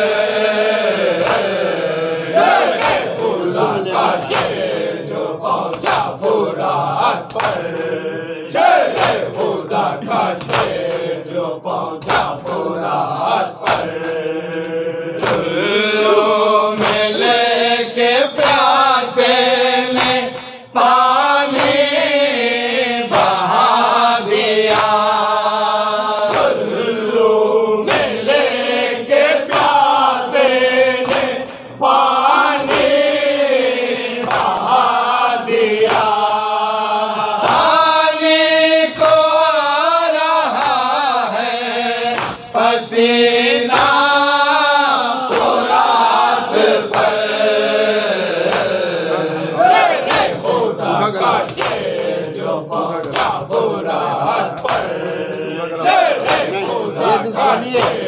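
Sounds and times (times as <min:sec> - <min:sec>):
men chanting in unison: 0:00.0 - 0:58.0.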